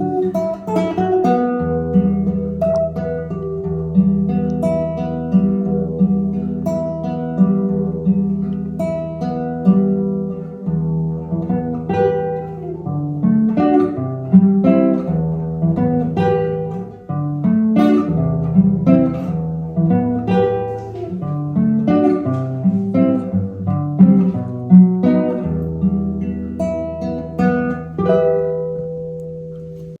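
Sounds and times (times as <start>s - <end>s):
fingerstyle acoustic guitar: 0.0s - 30.0s.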